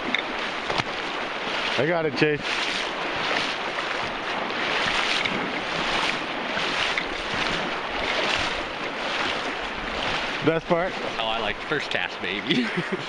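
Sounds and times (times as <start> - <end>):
wind buffeting microphone: 0.0 - 11.7
river water rushing: 0.0 - 13.0.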